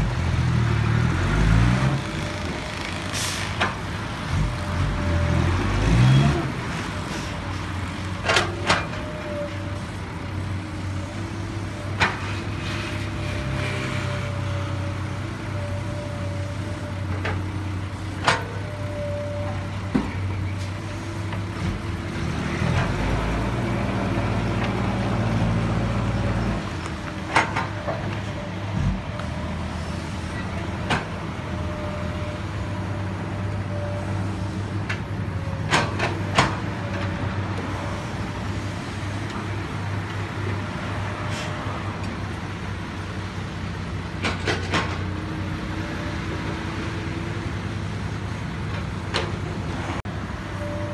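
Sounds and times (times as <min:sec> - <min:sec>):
diesel earthmoving machinery running: 0:00.0 - 0:50.9.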